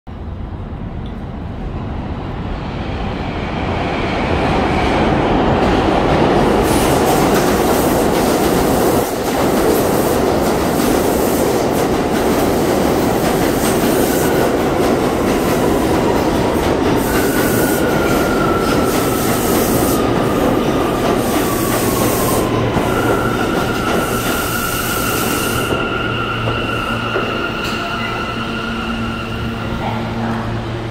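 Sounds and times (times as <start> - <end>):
train wheels rumbling on rail: 2.5 - 30.9.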